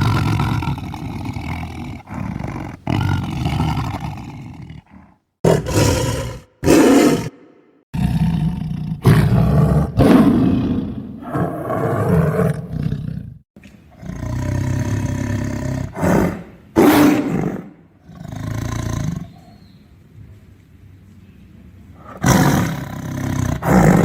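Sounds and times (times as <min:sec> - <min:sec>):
tiger roaring and snarling: 0:00.0 - 0:19.5, 0:22.0 - 0:24.0.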